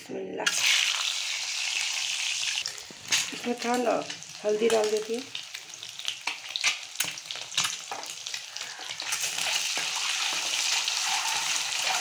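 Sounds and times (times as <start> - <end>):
eggs sizzling in hot oil: 0.4 - 12.0.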